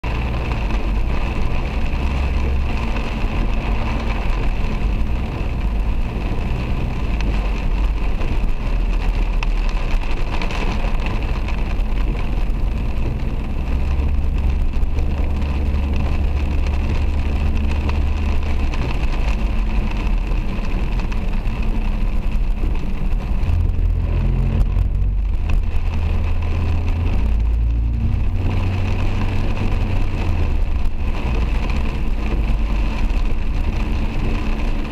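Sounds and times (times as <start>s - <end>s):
car engine and tyres rumbling: 0.0s - 34.9s
rain hissing over car: 0.0s - 34.9s.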